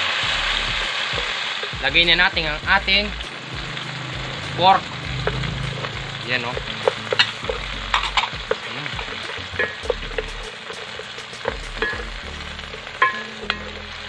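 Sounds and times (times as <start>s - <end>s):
meat sizzling in pan: 0.0s - 14.0s.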